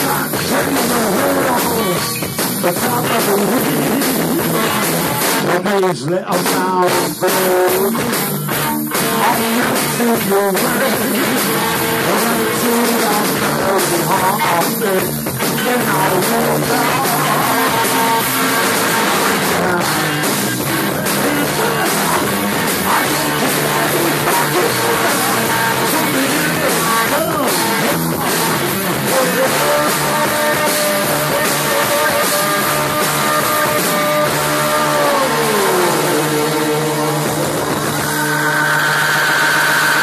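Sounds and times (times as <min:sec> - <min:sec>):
bass guitar: 0:00.0 - 0:40.0
distorted electric guitars: 0:00.0 - 0:40.0
drum kit: 0:00.0 - 0:40.0
lead singer singing: 0:00.0 - 0:40.0.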